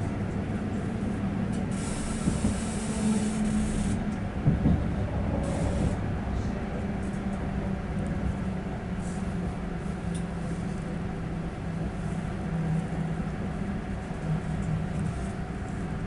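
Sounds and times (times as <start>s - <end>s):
train interior hum: 0.0s - 16.0s
train wheels rumbling on rails: 0.0s - 16.0s.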